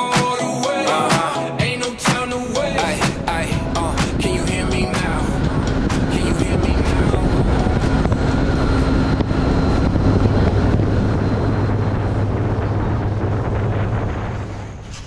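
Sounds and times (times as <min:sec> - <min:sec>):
outboard engine drone: 0:00.0 - 0:15.0
wind noise on microphone: 0:00.7 - 0:15.0.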